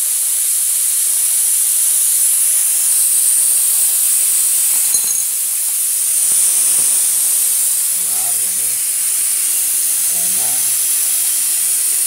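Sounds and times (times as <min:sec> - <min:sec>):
refrigerant gas hissing: 0:00.0 - 0:12.0.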